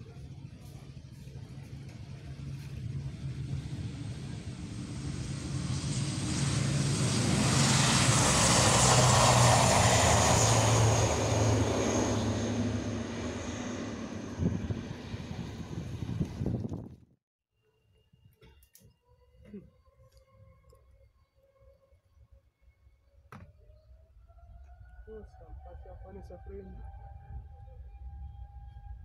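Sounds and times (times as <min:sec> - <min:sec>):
high turbine whine: 0:00.0 - 0:16.7, 0:19.0 - 0:29.0
propeller drone: 0:00.0 - 0:17.0, 0:17.6 - 0:29.0.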